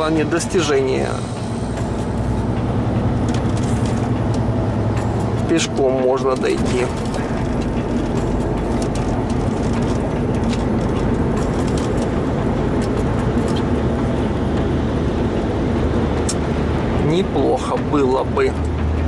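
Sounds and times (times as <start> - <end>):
road noise: 0.0 - 19.0
truck diesel engine drone: 0.0 - 19.0.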